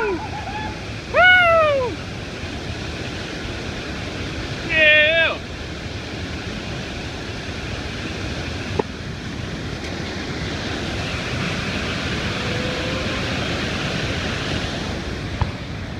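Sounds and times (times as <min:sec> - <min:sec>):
whitewater rapid rushing: 0:00.0 - 0:15.9.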